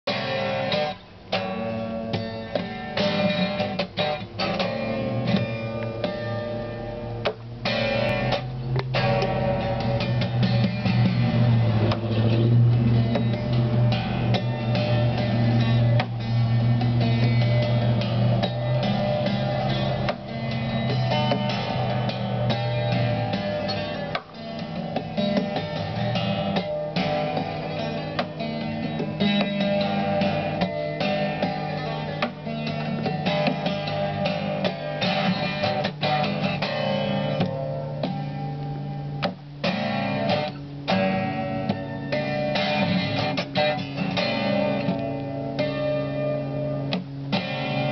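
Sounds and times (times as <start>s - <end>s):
guitar plucked notes: 0.1s - 47.9s
low bass notes: 0.1s - 47.9s.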